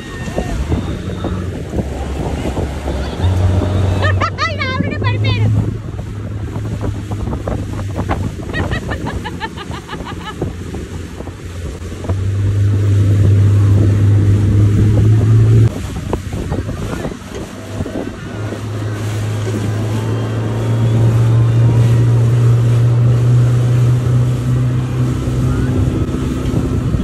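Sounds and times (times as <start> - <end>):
outboard motor droning: 0.0 - 27.0
water rushing in wake: 0.0 - 27.0
wind buffeting microphone: 0.0 - 27.0.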